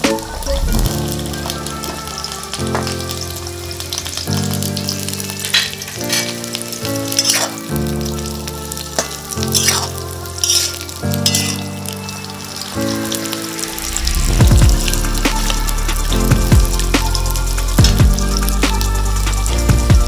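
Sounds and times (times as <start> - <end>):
food sizzling in hot oil: 0.0 - 19.9
background music with held chords: 0.0 - 20.0.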